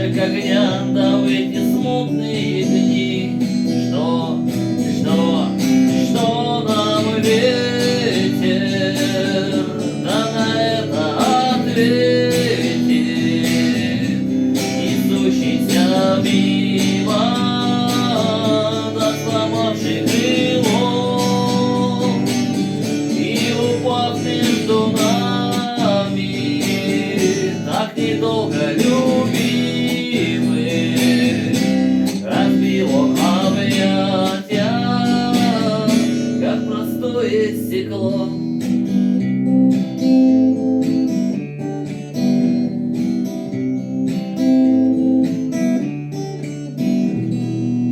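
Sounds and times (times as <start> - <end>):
person singing: 0.0 - 38.6
acoustic guitar strumming: 0.0 - 47.9.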